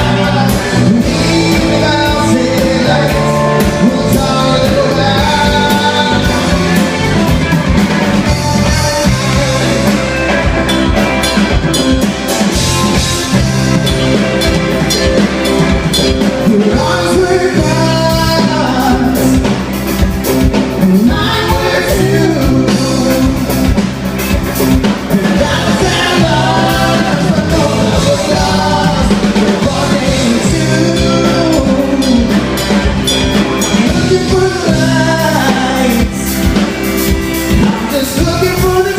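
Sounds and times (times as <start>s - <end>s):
drum kit beat: 0.0s - 38.9s
lead melody: 0.0s - 38.9s
rock band playing live: 0.0s - 38.9s.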